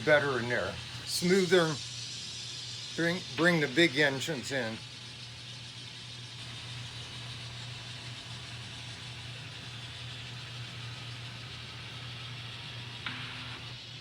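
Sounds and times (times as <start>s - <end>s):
hiss: 0.0s - 14.0s
model train diesel engine sound: 0.0s - 14.0s.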